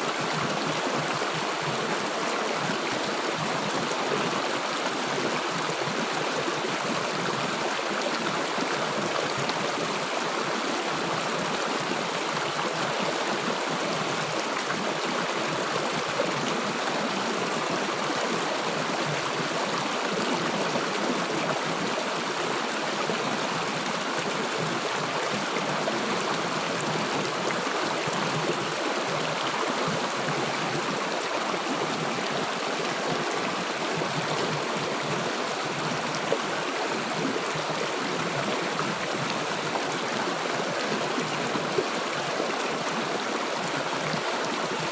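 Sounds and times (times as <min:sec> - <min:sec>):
river water rushing over stones: 0:00.0 - 0:44.9.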